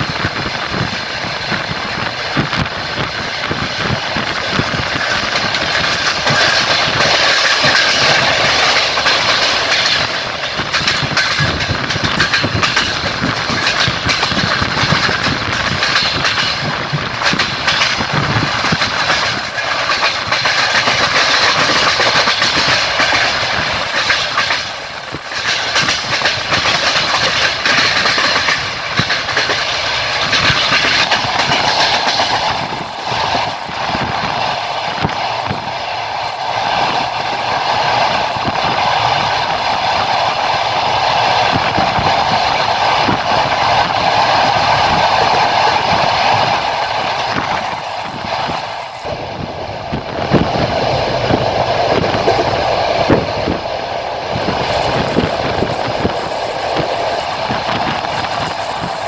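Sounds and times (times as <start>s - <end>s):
wheels clacking over rail joints: 0.0s - 49.2s, 49.9s - 59.0s
train wheels rumbling on rails: 0.0s - 59.0s.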